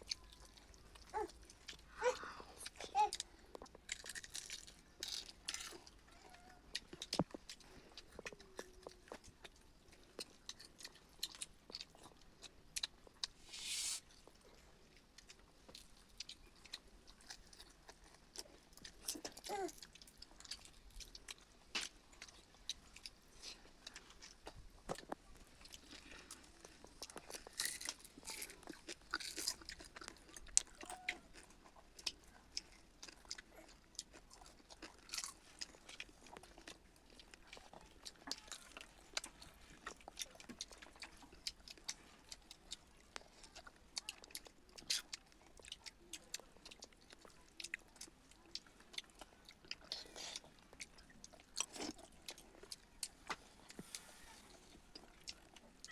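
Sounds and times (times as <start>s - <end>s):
person chewing with crunching: 0.0s - 55.9s.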